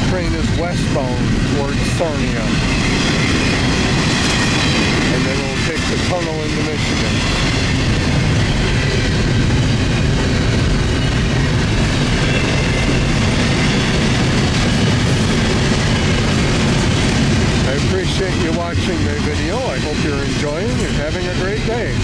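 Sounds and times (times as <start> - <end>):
clickety-clack over rail joints: 0.0 - 22.0
train wheels rumbling on rails: 0.0 - 22.0.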